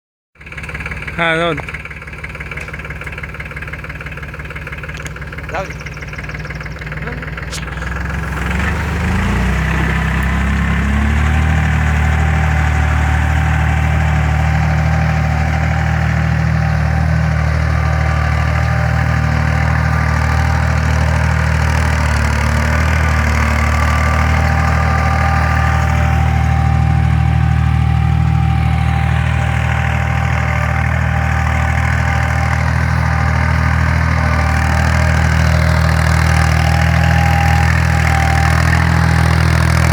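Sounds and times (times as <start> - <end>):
tractor diesel engine: 0.4 - 39.9.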